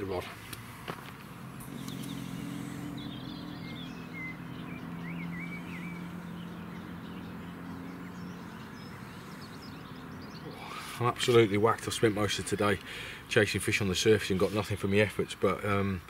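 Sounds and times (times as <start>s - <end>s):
small birds chirping and singing: 0.0s - 16.0s
steady low hum: 0.3s - 13.4s.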